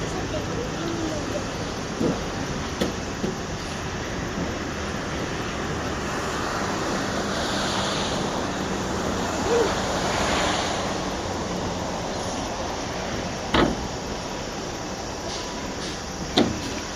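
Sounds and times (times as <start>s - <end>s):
freight train wheels rushing: 0.0s - 16.9s.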